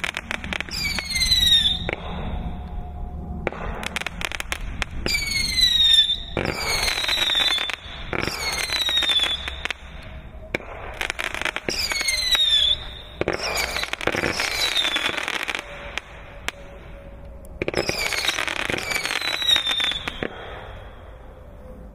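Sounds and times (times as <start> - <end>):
fireworks crackling bangs: 0.0 - 2.5, 3.4 - 16.8, 17.6 - 21.0
fireworks whistling: 0.0 - 21.9.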